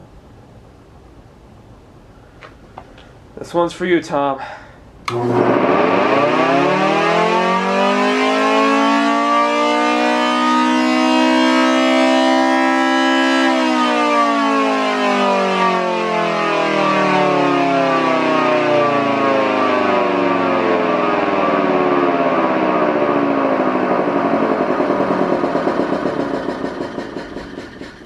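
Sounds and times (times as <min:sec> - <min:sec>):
outdoor warning siren rising and falling: 0:05.0 - 0:28.0.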